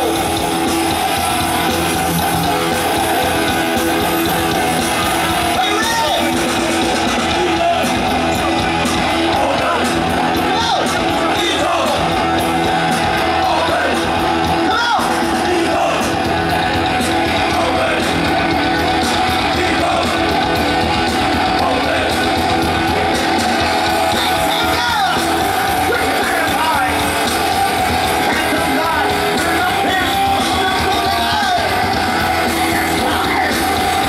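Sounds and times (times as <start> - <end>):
heavy metal band playing live: 0.0 - 34.0.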